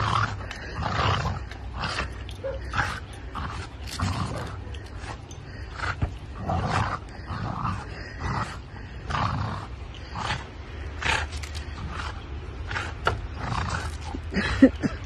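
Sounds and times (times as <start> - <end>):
dog growling: 0.0 - 15.0.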